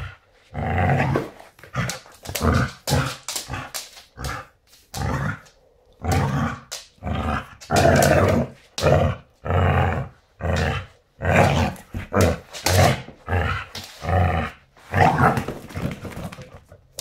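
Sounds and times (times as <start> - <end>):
dog growling: 0.0 - 16.0.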